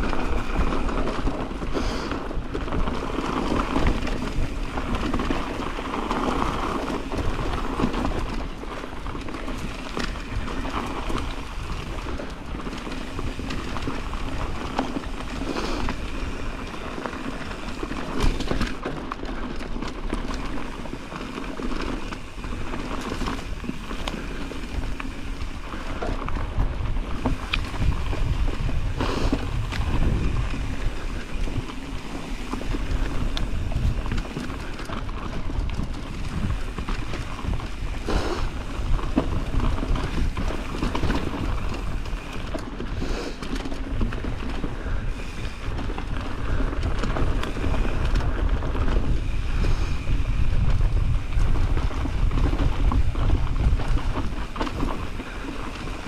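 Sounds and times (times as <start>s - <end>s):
tyres rumbling on dirt: 0.0s - 56.0s
wind rushing over microphone: 0.0s - 56.0s.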